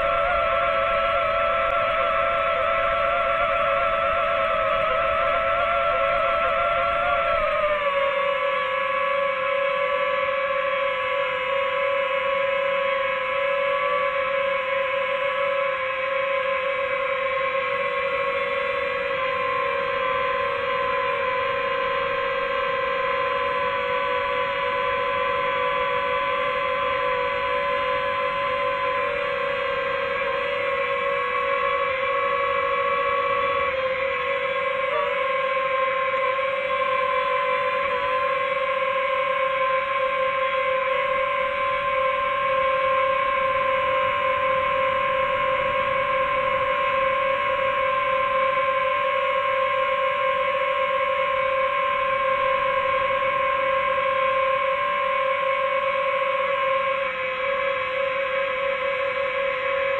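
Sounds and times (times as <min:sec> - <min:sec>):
drone propellers whining: 0:00.0 - 0:10.2, 0:17.6 - 0:59.6.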